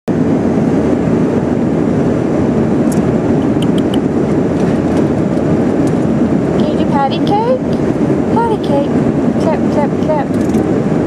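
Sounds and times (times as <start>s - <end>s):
airplane cabin rumble: 0.1s - 11.0s.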